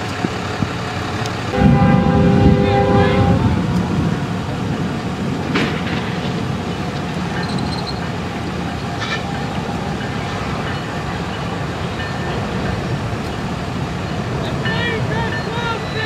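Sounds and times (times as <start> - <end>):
low rumbling noise: 0.0 - 15.1.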